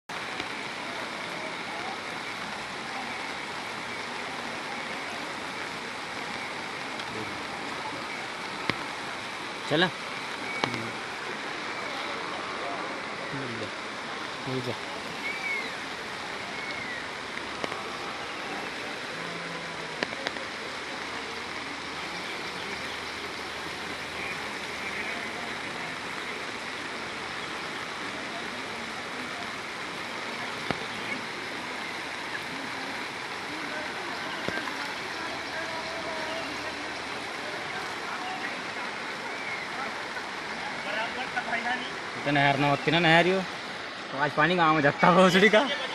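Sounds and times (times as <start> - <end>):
floodwater rushing: 0.1 - 45.9.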